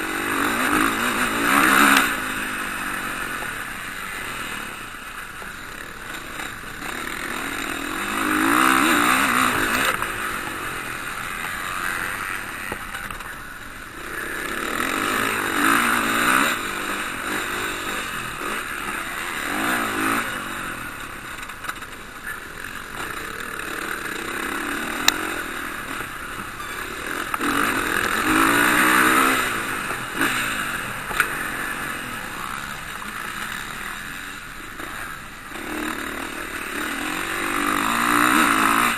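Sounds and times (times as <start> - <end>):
engine noise of other bikes: 0.0 - 38.9
motocross motorcycles revving past: 0.0 - 38.9.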